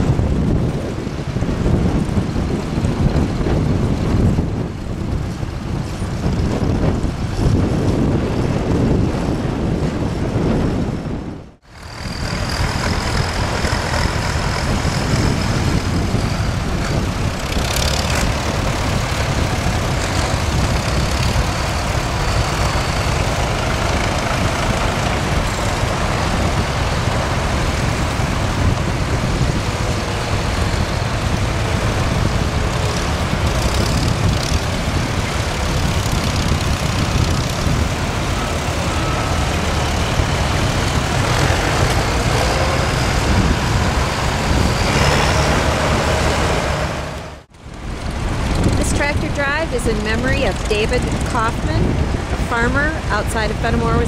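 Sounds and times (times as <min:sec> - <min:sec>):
tractor engines driving past: 0:00.0 - 0:54.0.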